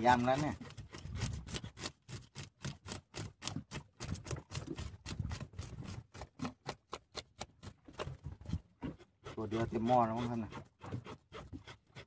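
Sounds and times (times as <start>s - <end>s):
scraping fish scales: 0.0s - 12.0s.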